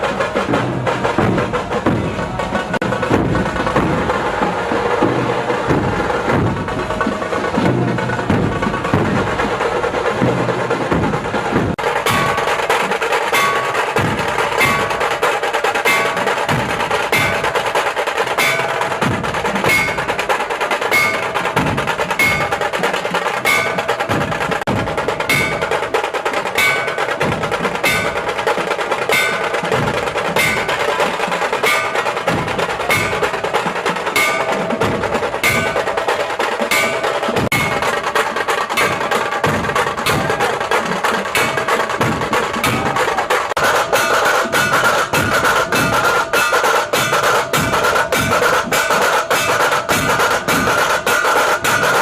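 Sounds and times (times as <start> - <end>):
music with percussion and bells: 0.0 - 52.0.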